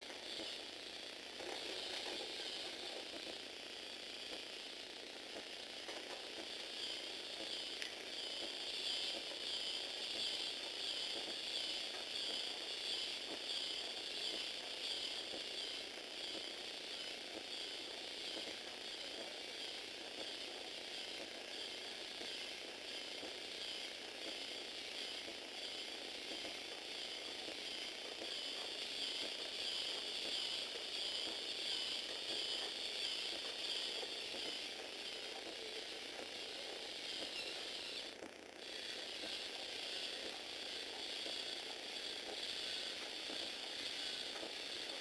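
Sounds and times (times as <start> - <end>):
small electric motor whining: 0.0 - 45.0.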